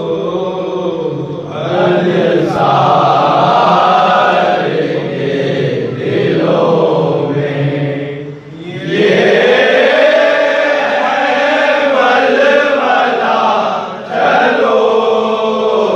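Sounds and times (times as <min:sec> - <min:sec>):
men chanting a lament: 0:00.0 - 0:15.9.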